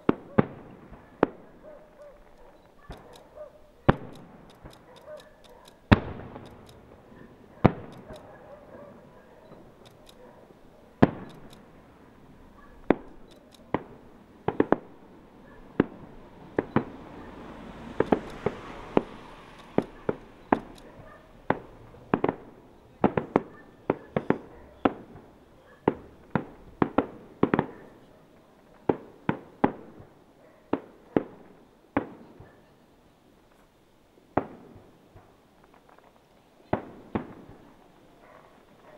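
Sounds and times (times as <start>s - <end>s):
fireworks bangs: 0.0s - 32.7s, 34.3s - 35.4s, 36.6s - 37.9s
crackling hiss: 0.0s - 38.9s.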